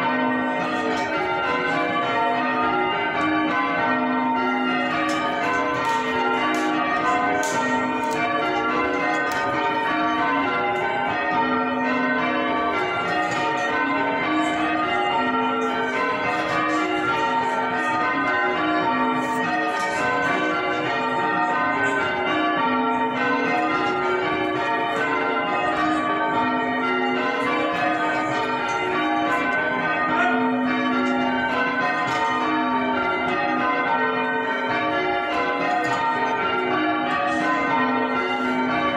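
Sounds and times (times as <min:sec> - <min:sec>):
church bells change ringing: 0:00.0 - 0:38.9.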